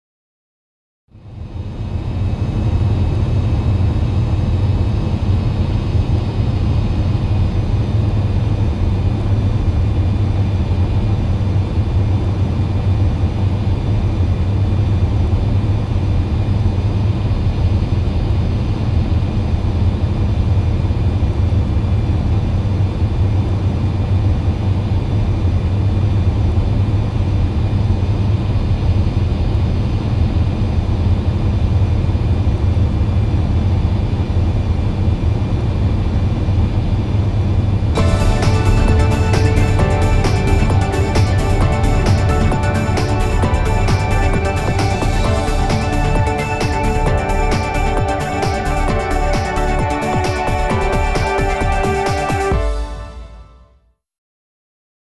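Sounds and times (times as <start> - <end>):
jet engines droning: 1.2 - 53.2
faint high whine: 1.2 - 53.7.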